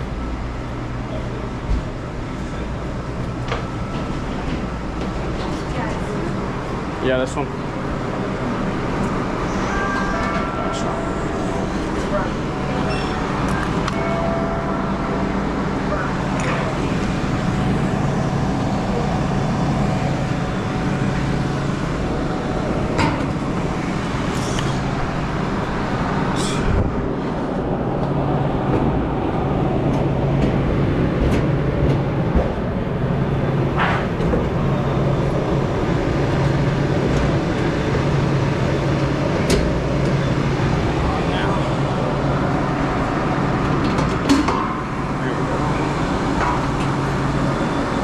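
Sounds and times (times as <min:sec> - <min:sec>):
mechanical hum and rumble: 0:00.0 - 0:48.0.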